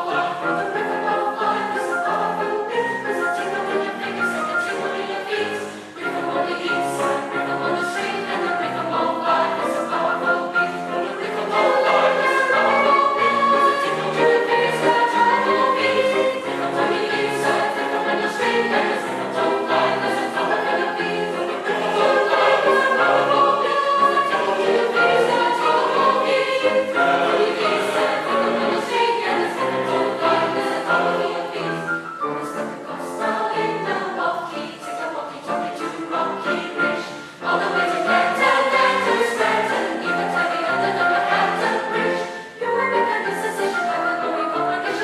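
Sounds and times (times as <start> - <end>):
mixed choir singing: 0.0 - 45.0.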